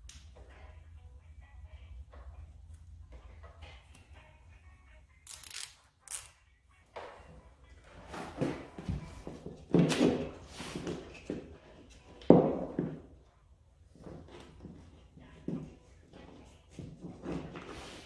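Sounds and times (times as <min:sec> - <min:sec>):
hold music through phone speaker: 0:00.0 - 0:18.0.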